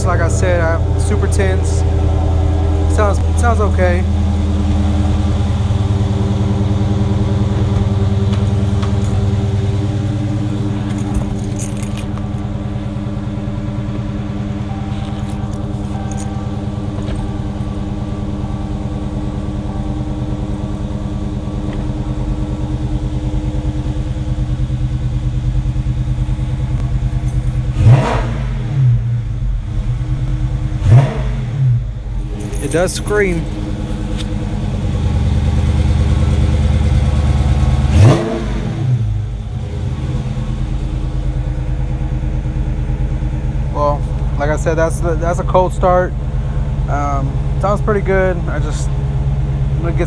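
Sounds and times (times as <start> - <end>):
car engine idling: 0.0 - 50.0
car engine revving: 0.0 - 50.0.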